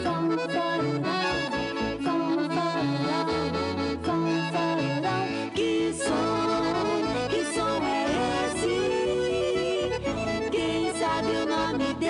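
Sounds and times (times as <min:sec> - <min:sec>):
piano accordion melody: 0:00.0 - 0:12.0
rhythmic bass accompaniment: 0:00.0 - 0:12.0.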